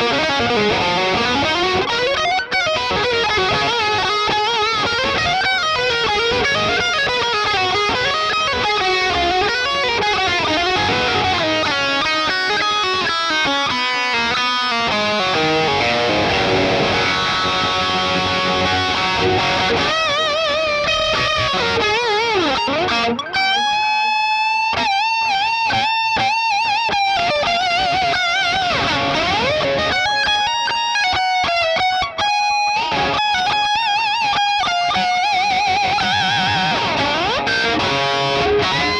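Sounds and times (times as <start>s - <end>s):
electric guitar lead melody: 0.0s - 38.9s.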